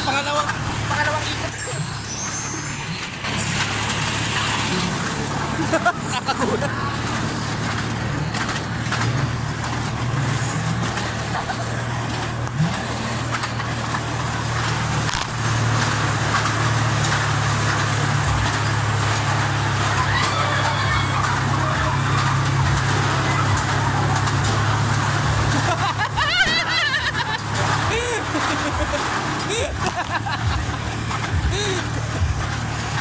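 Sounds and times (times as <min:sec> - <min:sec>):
noisy rumble: 0:00.0 - 0:33.0
ride mechanical drone: 0:00.0 - 0:33.0.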